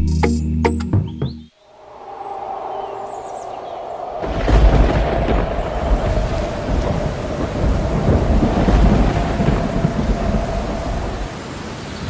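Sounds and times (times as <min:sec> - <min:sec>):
steady rain: 0:01.7 - 0:12.0
rolling thunder rumble: 0:01.9 - 0:11.7.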